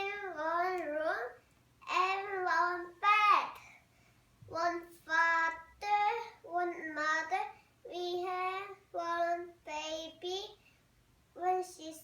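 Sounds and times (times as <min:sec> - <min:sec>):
young child singing: 0:00.0 - 0:03.7, 0:04.4 - 0:10.6, 0:11.4 - 0:12.0.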